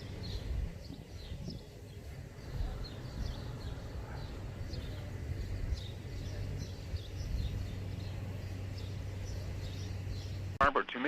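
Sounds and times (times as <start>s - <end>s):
steady low rumble: 0.0s - 10.8s
birds chirping: 0.0s - 11.0s.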